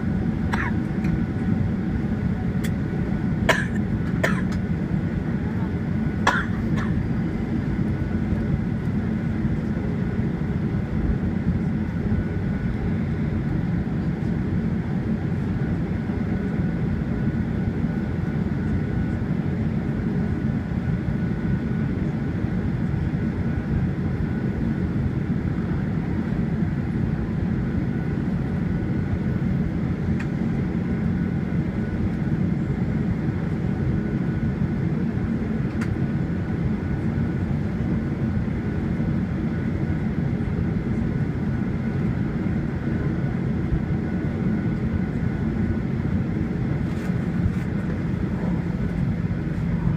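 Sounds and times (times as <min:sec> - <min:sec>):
airplane cabin engine rumble: 0:00.0 - 0:49.9
faint steady whine: 0:00.0 - 0:49.9.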